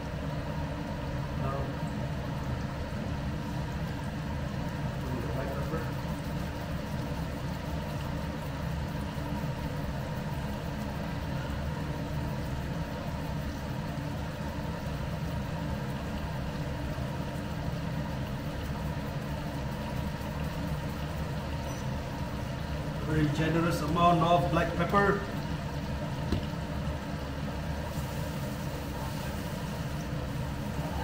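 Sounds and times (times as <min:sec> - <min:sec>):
range hood fan humming: 0:00.0 - 0:31.0.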